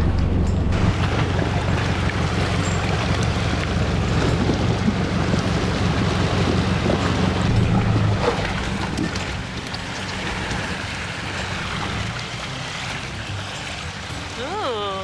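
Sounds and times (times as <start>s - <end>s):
car engine running: 0.0s - 15.0s
water splashing: 0.7s - 15.0s.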